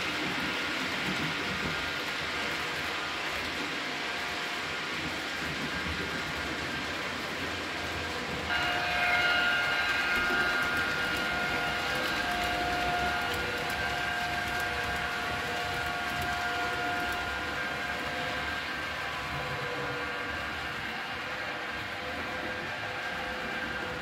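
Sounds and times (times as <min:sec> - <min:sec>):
model train rolling rattle: 0:00.0 - 0:24.0.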